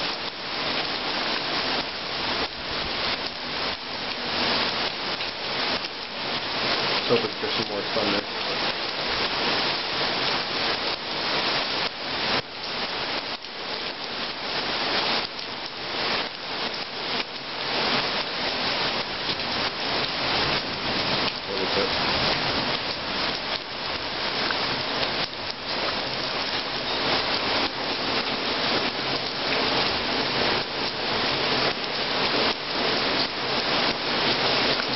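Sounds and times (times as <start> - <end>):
heavy rain on hard surfaces: 0.0 - 34.9.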